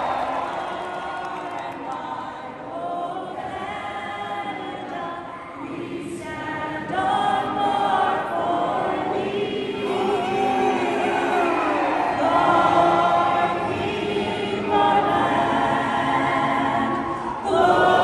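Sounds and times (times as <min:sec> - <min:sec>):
crowd singing an anthem: 0:00.0 - 0:18.0
vocal group singing: 0:00.0 - 0:18.0.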